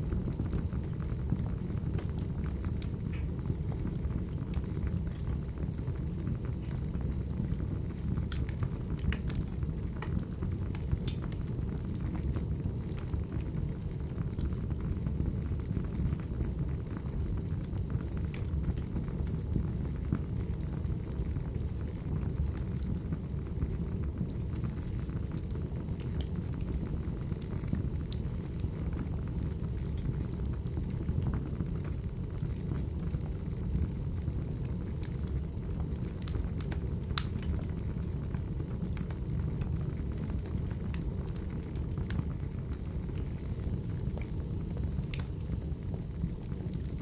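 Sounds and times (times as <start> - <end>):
fire crackling and popping: 0.0 - 47.0
low rumble of flames: 0.0 - 47.0.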